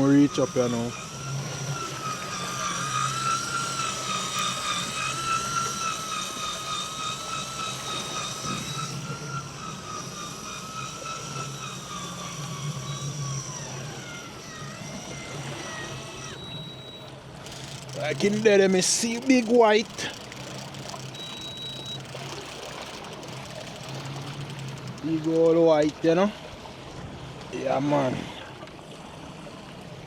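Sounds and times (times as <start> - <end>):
low hum: 0.0 - 26.1
fishing reel motor whine: 0.0 - 30.0.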